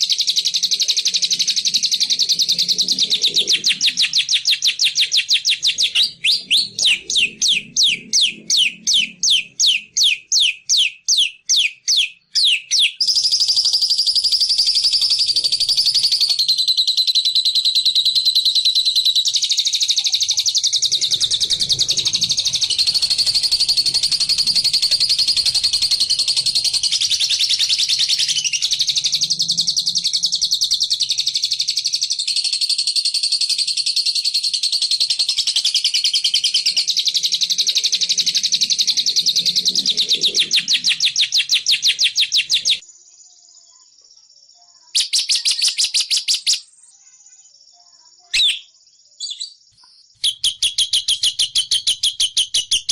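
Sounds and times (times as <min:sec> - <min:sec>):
rapid high chattering bird trill: 0:00.0 - 0:42.9, 0:44.7 - 0:52.9
bird song with sharp high notes: 0:00.0 - 0:52.9.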